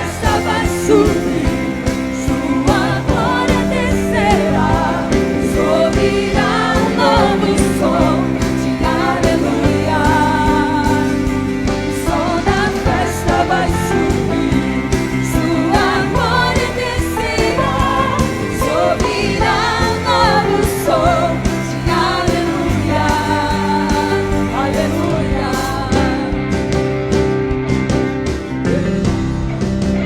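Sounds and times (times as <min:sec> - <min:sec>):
voices singing together: 0:00.0 - 0:27.1
steady drum beat: 0:00.0 - 0:30.0
sustained chords: 0:00.0 - 0:30.0.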